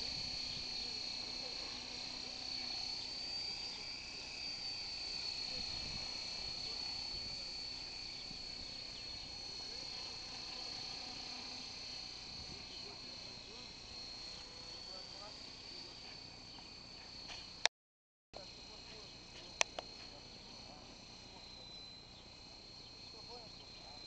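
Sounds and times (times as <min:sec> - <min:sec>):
rc helicopter rotor whine: 0:00.0 - 0:17.7, 0:18.4 - 0:24.0.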